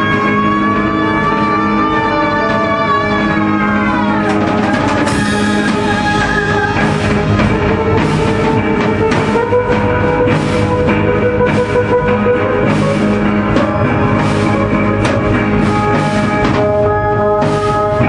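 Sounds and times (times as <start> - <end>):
drums and cymbal crashes: 0.0 - 18.0.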